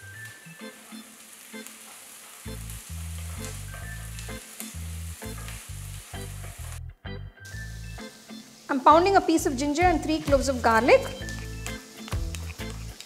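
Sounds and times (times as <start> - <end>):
vegetables sizzling in hot oil: 0.0 - 6.8, 7.5 - 13.0.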